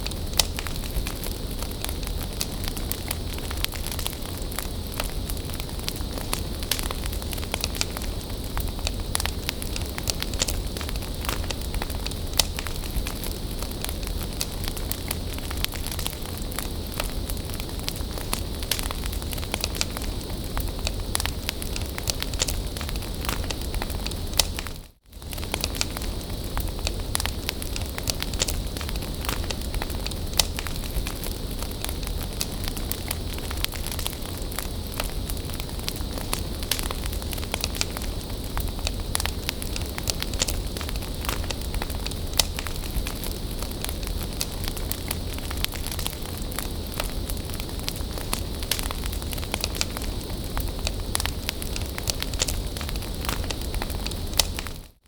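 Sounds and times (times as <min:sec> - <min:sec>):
bonfire crackling: 0:00.0 - 0:55.0.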